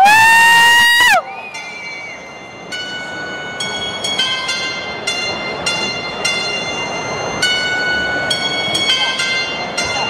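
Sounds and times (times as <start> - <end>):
crowd noise: 0.0 - 10.0.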